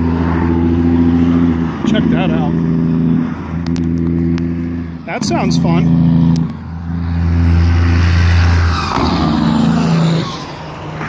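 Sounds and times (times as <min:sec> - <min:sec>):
low engine hum: 0:00.0 - 0:11.0
vehicles passing with tyre noise: 0:00.0 - 0:11.0.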